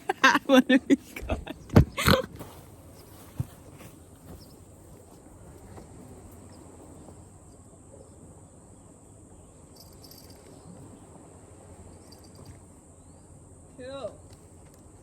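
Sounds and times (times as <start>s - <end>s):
insects chirping: 0.0s - 15.0s
low outdoor rumble: 0.0s - 15.0s.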